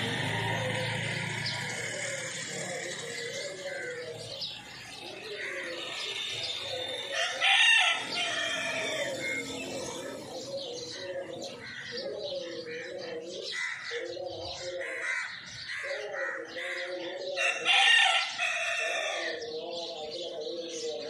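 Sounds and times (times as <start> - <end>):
repeated bird calls: 0.0 - 21.0
sparrows chirping: 0.0 - 21.0.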